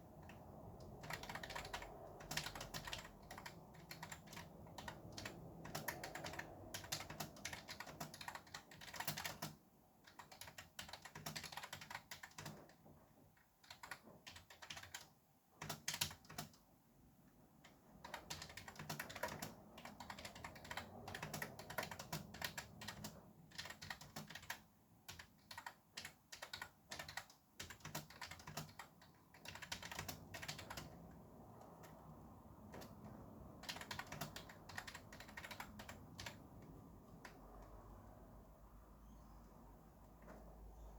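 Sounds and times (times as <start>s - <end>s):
fast typing on keyboard: 0.0s - 16.6s, 17.6s - 37.8s
faint traffic hiss: 0.0s - 40.9s.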